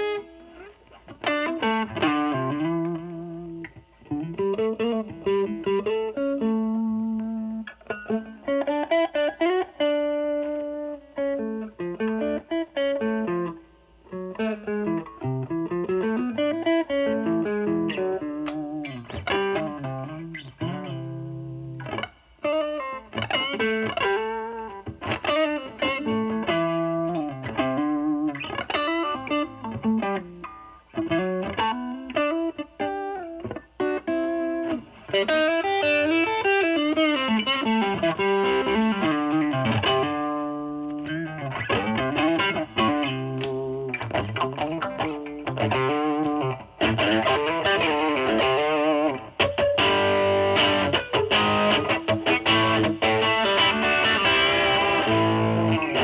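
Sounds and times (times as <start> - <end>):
overdriven electric guitar blues licks: 0.0 - 56.0.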